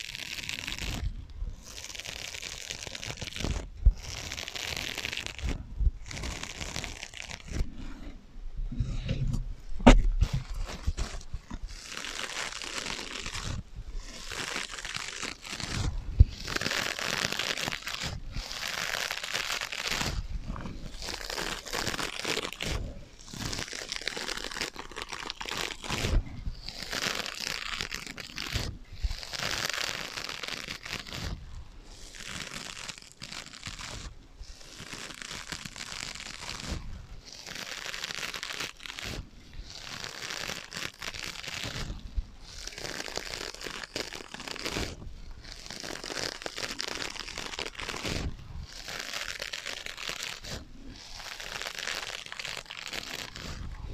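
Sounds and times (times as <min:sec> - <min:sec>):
scratching on foam sponges: 0:00.0 - 0:53.9.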